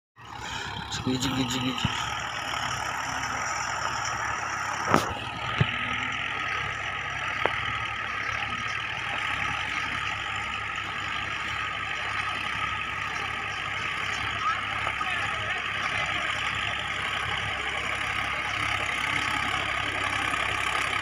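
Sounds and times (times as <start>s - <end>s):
tractor diesel engine running: 0.2s - 21.0s.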